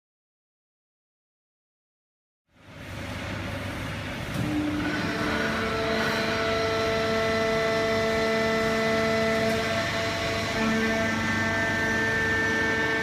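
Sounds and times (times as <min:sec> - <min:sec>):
machine drone: 0:02.5 - 0:13.0
steady whine: 0:02.5 - 0:13.0.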